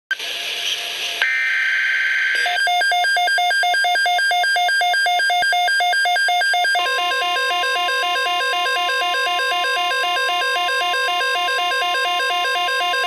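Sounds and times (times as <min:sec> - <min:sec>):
electronic alarm beeping: 0:01.2 - 0:13.0.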